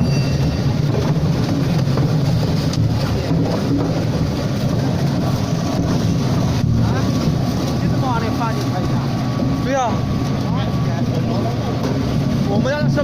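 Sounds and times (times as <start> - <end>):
large engine rumbling: 0.0 - 13.0.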